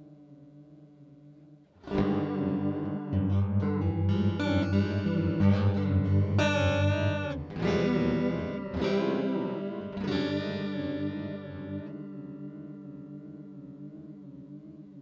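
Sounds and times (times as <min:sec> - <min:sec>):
electric guitar chords with flanger: 0:00.0 - 0:15.0.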